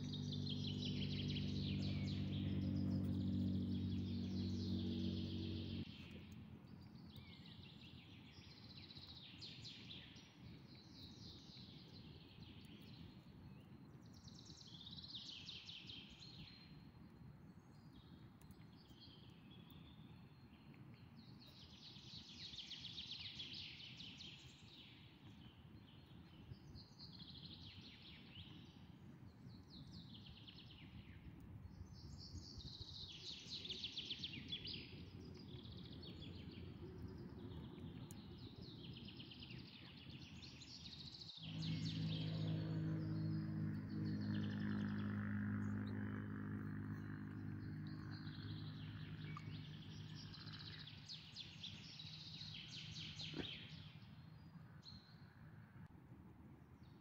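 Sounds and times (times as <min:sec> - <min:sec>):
songbird singing: 0:00.0 - 0:16.9, 0:17.5 - 0:55.7.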